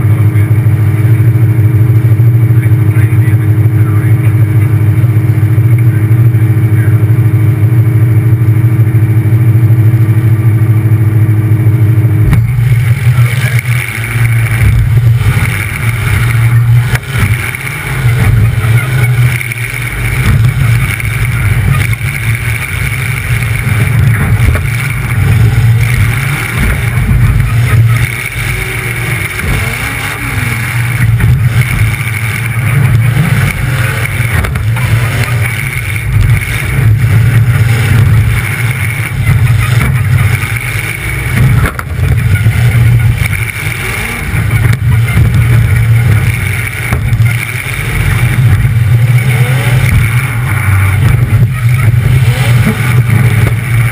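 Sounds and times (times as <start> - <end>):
loud car engine surging: 0.0 - 53.9.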